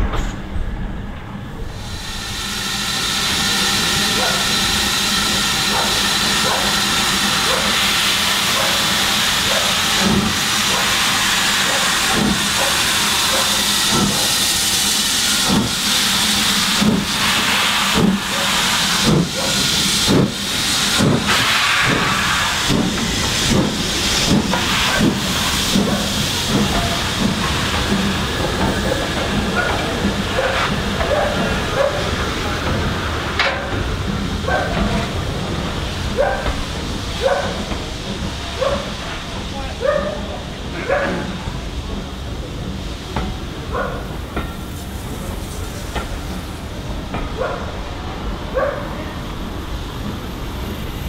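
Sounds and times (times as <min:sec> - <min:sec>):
steam locomotive hissing steam: 0:01.6 - 0:51.0.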